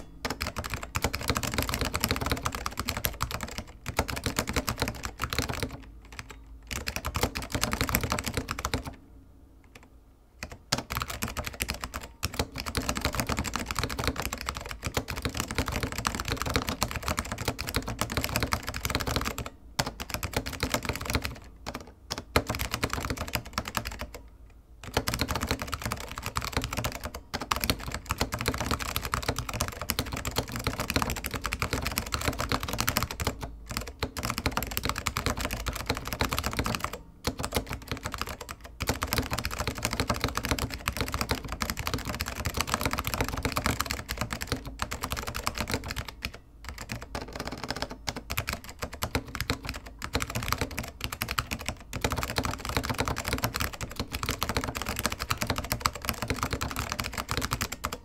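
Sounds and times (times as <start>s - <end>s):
mechanical keyboard typing: 0.0s - 9.0s, 9.6s - 58.0s.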